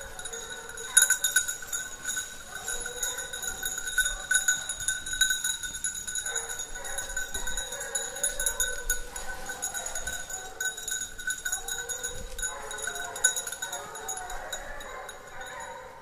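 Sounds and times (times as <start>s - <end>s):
collar bells ringing: 0.0s - 16.0s
hounds baying: 0.0s - 16.0s.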